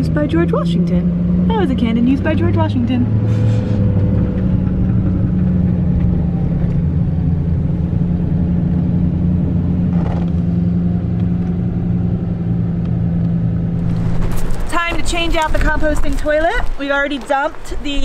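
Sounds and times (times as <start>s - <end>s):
truck engine and road noise: 0.0s - 18.0s.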